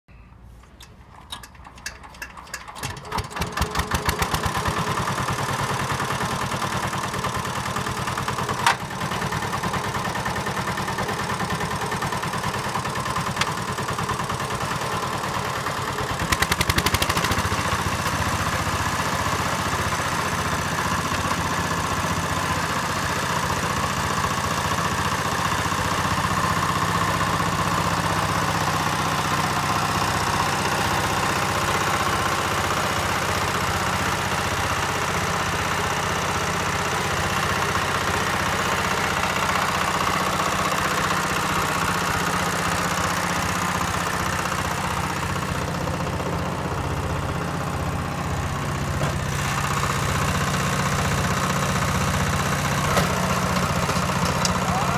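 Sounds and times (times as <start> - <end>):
tractor engine starting and idling: 0.1 - 54.9.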